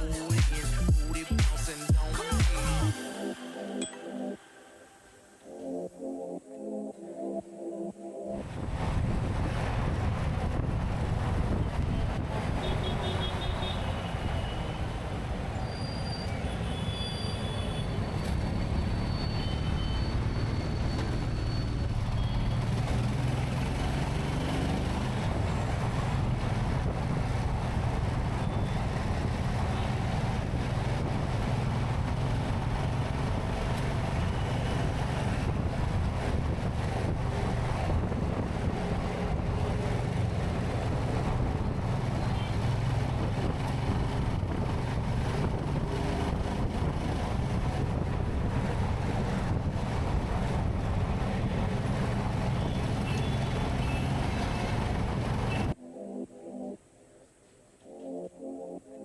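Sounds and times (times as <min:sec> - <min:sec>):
vehicle and road drone: 0:07.9 - 0:56.1.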